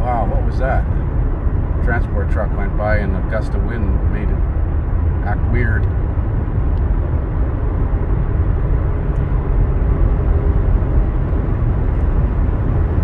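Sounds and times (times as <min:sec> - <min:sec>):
car engine accelerating: 0:00.0 - 0:13.0
road and wind noise in car: 0:00.0 - 0:13.0.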